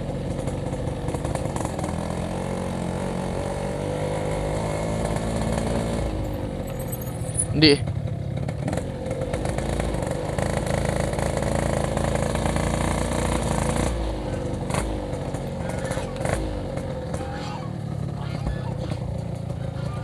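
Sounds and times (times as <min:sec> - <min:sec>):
motorcycle engine buzzing: 0:00.0 - 0:20.0.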